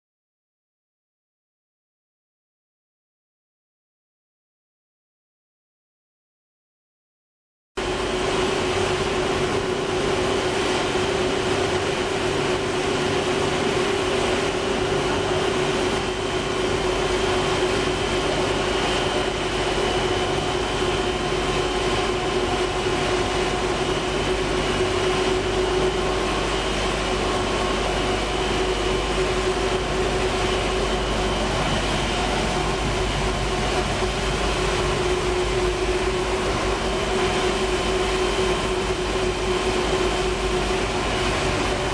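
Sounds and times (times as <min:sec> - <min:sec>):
high machine whine: 0:07.8 - 0:41.9
machinery humming: 0:07.8 - 0:41.9.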